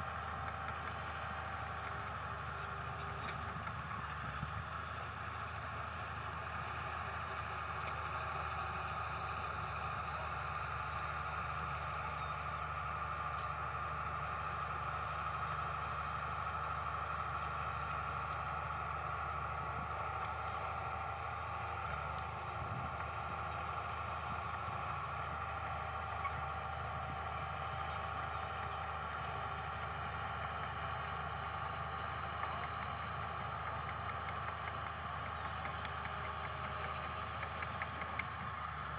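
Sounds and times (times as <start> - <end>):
diesel engine drone with whine: 0.0 - 38.9.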